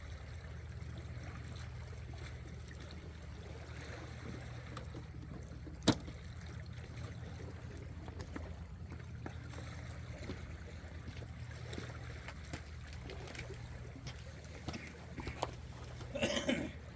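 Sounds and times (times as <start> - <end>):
boat engine droning: 0.0 - 16.9
light water sounds: 0.0 - 16.9.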